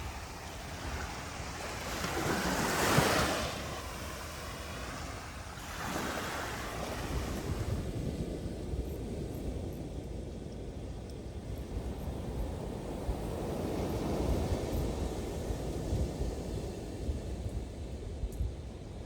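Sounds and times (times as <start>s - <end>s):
waves breaking on a beach: 0.0s - 18.2s
wind rumbling on microphone: 0.0s - 19.0s.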